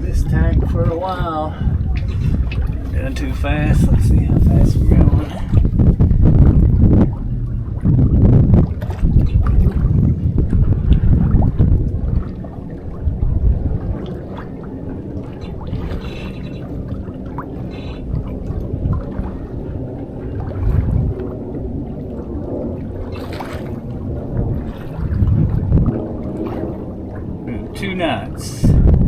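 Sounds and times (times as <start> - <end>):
water gurgling along hull: 0.0 - 29.0
wind buffeting microphone: 0.0 - 29.0.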